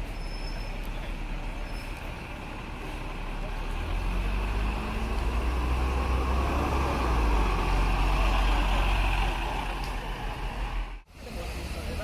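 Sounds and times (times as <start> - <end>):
bus diesel engine passing: 0.0 - 12.0.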